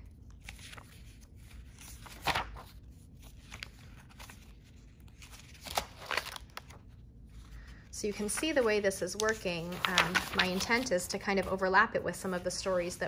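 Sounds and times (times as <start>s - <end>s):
paper pages turning: 0.0s - 7.5s, 8.1s - 11.6s.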